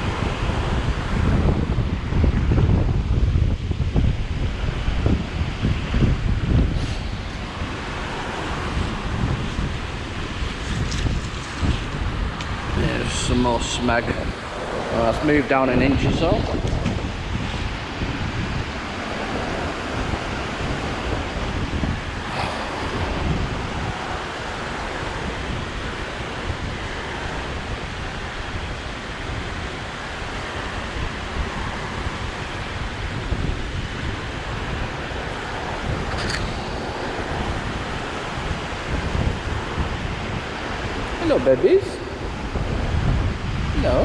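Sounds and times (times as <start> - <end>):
water rushing from overflow: 0.0 - 44.0
wind buffeting microphone: 0.0 - 44.0.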